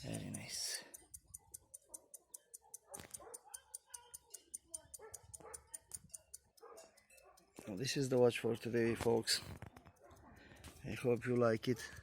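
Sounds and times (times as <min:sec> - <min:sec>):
pocket watch ticking: 0:00.0 - 0:12.0.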